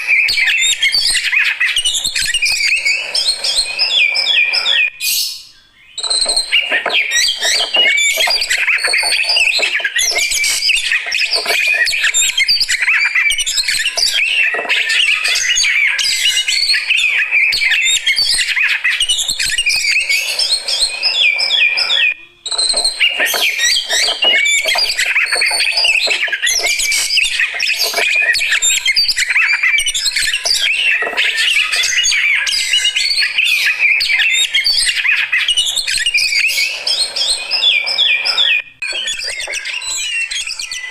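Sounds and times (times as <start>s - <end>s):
bird singing chirps and whistles: 0.0s - 40.9s.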